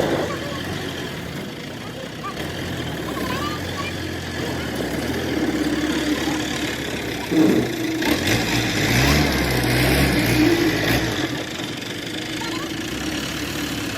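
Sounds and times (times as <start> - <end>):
engine knock: 0.0 - 13.9
engine running: 0.0 - 13.9.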